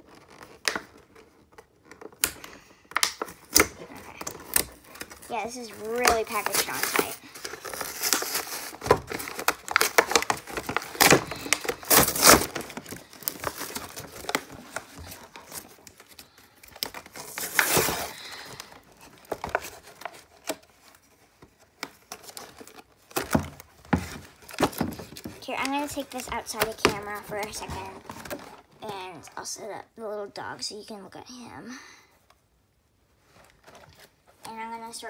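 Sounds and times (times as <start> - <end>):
tape tearing: 0.0 - 28.9
plastic packaging crinkling: 0.0 - 29.2.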